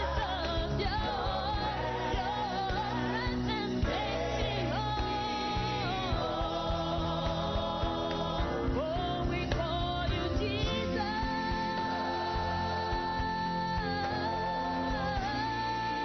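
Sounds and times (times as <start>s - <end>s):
band accompaniment: 0.0s - 16.0s
person singing with vibrato: 0.0s - 16.0s.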